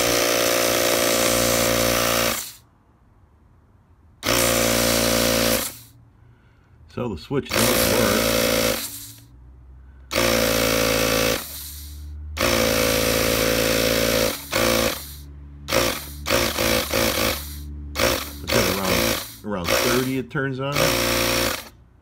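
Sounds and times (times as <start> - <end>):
tire inflator compressor running: 0.0 - 2.7, 4.2 - 6.8, 7.5 - 22.0.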